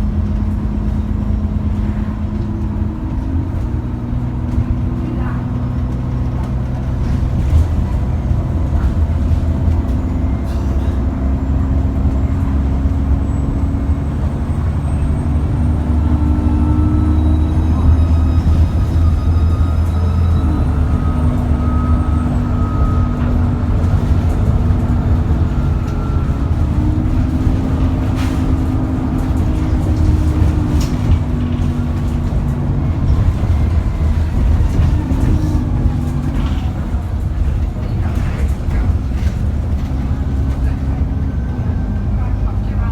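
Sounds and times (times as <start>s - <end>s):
bus diesel engine rumble: 0.0s - 42.9s.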